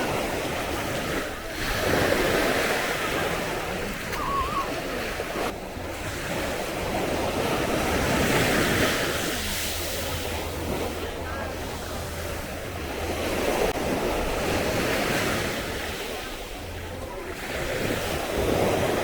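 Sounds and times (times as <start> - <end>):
sea waves washing on beach: 0.0 - 19.0.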